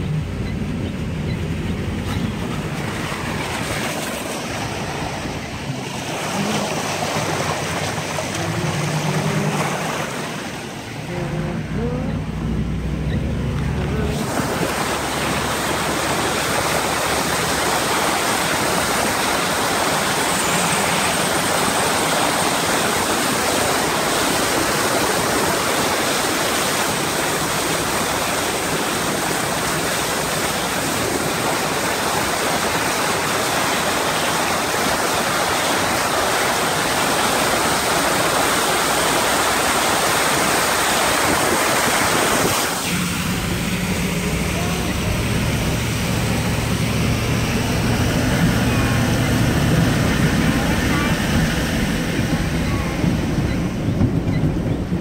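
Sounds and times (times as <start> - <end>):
vehicle driving through floodwater: 0.0 - 55.0.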